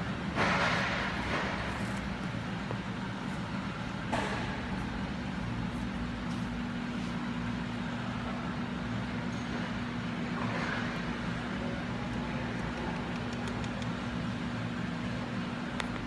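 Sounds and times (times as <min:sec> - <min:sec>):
low background rumble with hum: 0:00.0 - 0:16.0.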